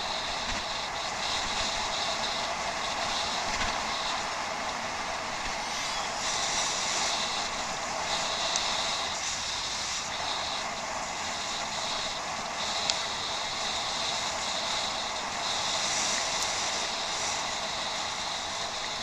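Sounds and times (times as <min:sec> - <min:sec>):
bicycle riding on rough ground: 0:00.0 - 0:19.0.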